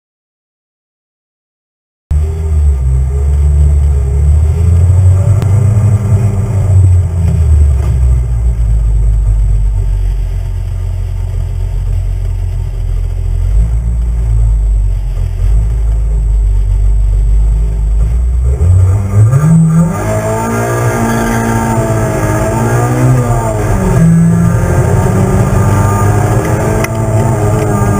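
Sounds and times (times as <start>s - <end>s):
car engine running and accelerating: 2.1s - 27.9s.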